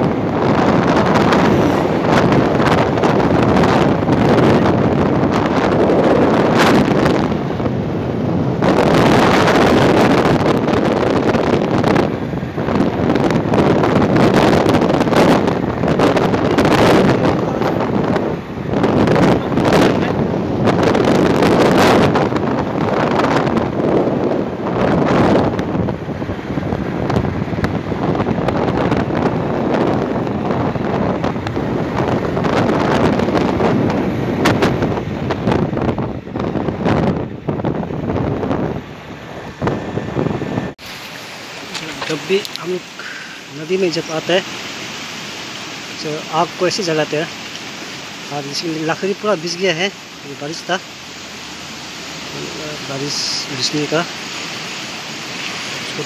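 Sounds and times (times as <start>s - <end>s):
road noise: 0.0s - 56.0s
wind rushing over microphone: 0.0s - 56.0s.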